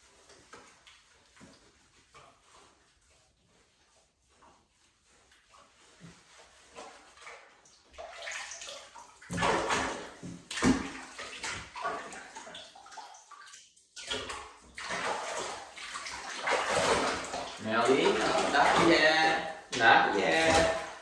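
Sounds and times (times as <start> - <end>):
bathwater splashing in tub: 0.0 - 21.0.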